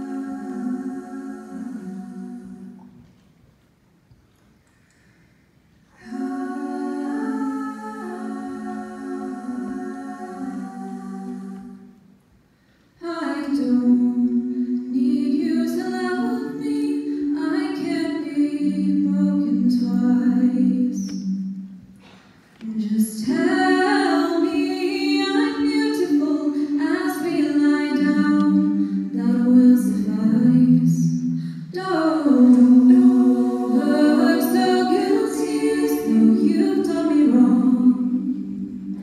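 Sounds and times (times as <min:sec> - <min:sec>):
a cappella group singing: 0:00.0 - 0:03.1, 0:05.9 - 0:12.1, 0:13.0 - 0:39.0.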